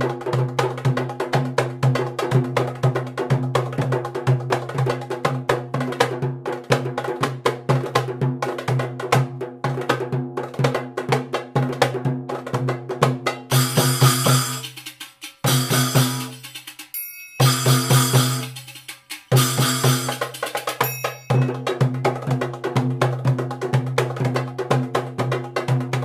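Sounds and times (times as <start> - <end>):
fast hand drum rhythm: 0.0 - 26.0.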